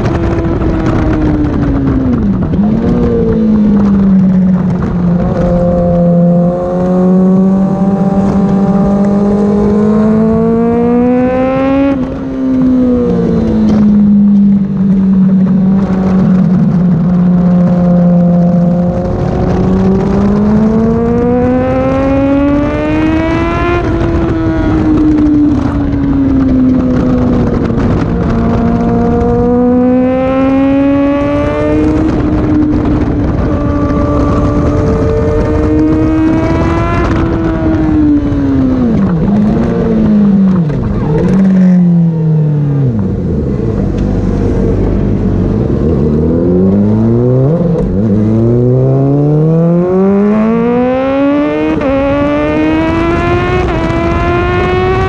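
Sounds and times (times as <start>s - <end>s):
motorcycle engine running hard: 0.0s - 55.0s
wind noise: 0.0s - 55.0s.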